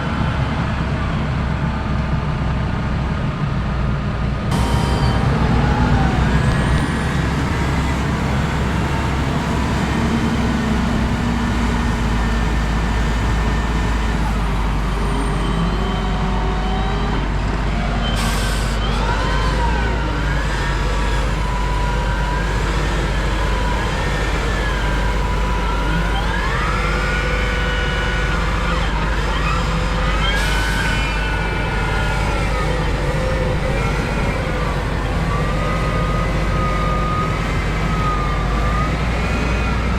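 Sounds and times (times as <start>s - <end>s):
tractor engine rumbling: 0.0s - 39.9s.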